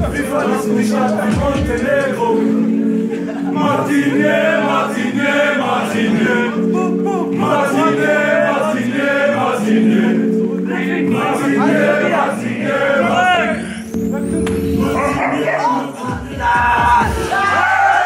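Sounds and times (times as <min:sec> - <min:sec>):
voices singing held chords: 0:00.0 - 0:18.0.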